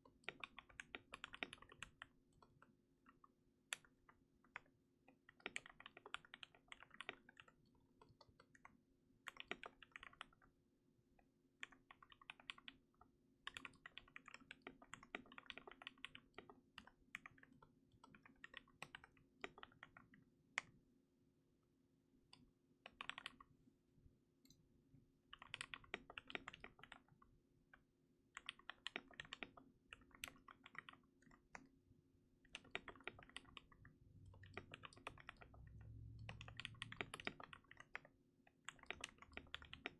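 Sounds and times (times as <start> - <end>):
mechanical keyboard typing: 0.1 - 10.4, 11.6 - 20.1, 22.9 - 23.5, 25.3 - 27.2, 28.4 - 31.7, 32.5 - 39.9.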